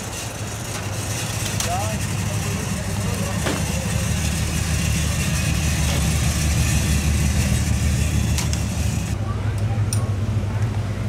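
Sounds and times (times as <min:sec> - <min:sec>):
car engines low rumble: 0:00.0 - 0:11.0.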